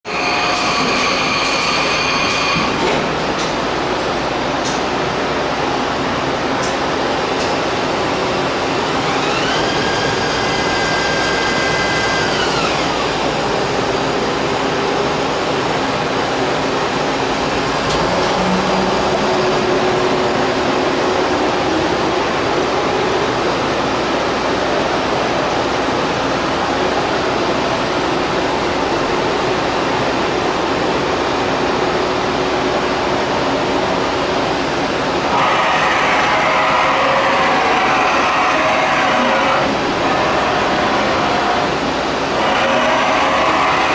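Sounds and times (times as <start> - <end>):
machine shop machinery noise: 0.0 - 43.9.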